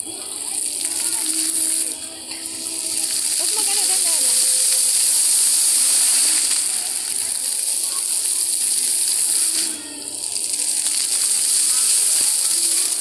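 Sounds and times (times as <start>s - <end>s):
fountain jets splashing on tiles: 0.0s - 13.0s.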